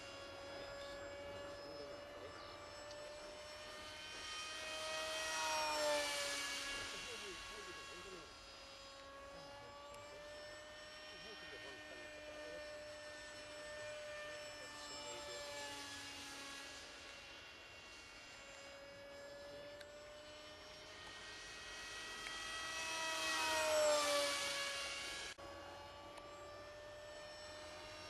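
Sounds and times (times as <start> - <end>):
model jet propeller whining: 0.0 - 28.0.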